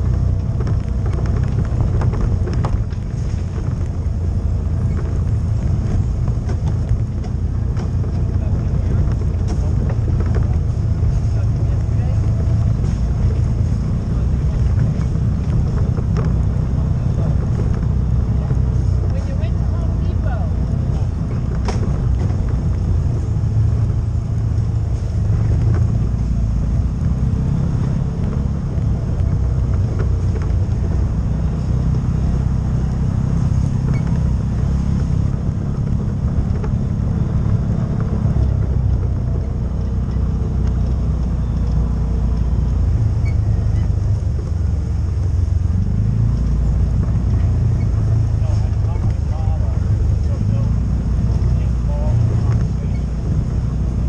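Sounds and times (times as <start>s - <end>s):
off-road vehicle engine rumble: 0.0s - 54.0s.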